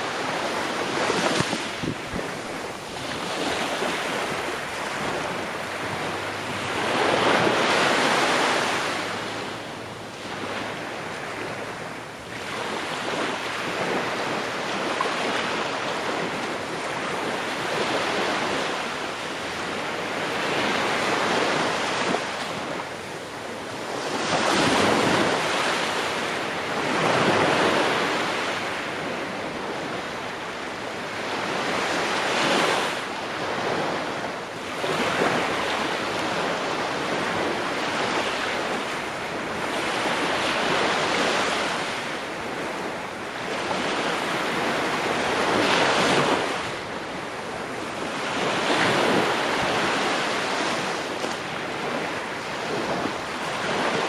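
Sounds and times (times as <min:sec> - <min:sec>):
ocean waves breaking: 0:00.0 - 0:54.0
wind: 0:00.0 - 0:54.0.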